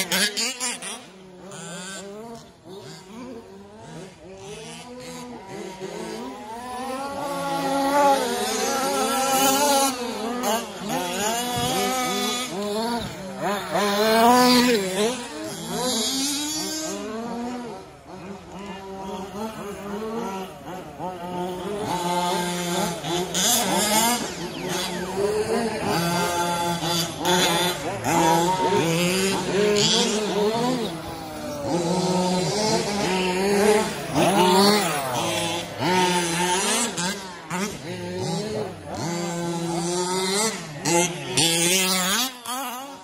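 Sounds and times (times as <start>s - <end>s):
small two-stroke engines revving: 0.0s - 43.0s.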